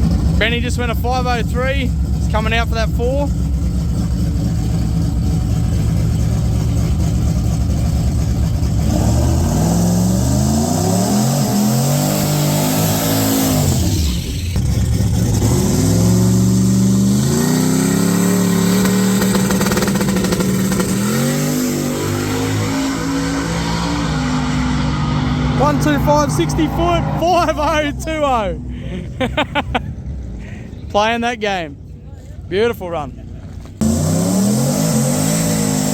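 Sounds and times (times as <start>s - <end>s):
turbocharged engine revving: 0.0s - 28.8s, 33.8s - 35.9s.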